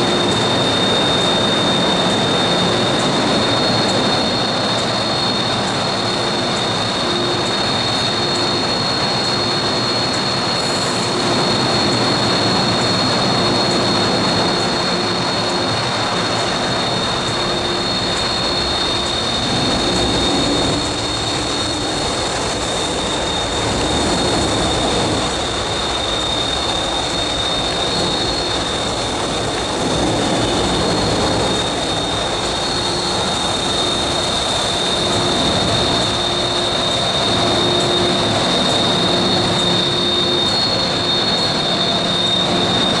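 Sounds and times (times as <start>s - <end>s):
constant high whine: 0.0s - 43.0s
train wheels and motors rumbling: 0.0s - 43.0s.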